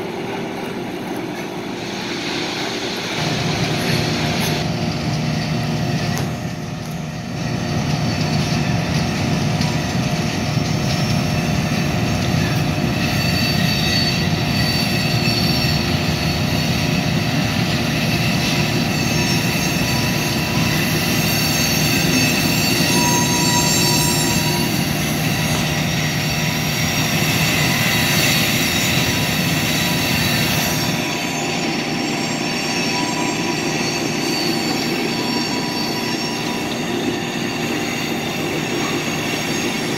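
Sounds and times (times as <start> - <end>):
rail cars rumbling: 0.0 - 39.9
steel wheels squealing: 0.0 - 39.9.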